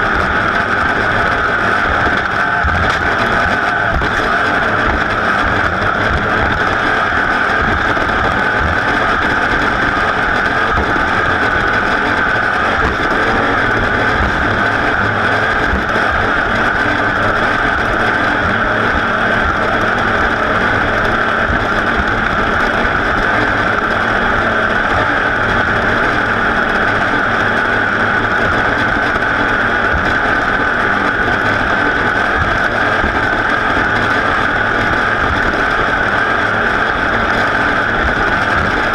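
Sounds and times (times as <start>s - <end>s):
racing engine droning: 0.0s - 38.9s.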